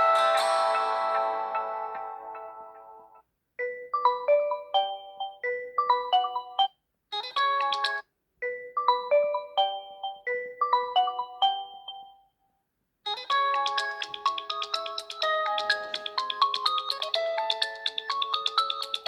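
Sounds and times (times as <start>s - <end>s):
phone ringtone tune: 0.0s - 6.8s, 7.4s - 12.3s, 13.2s - 19.0s.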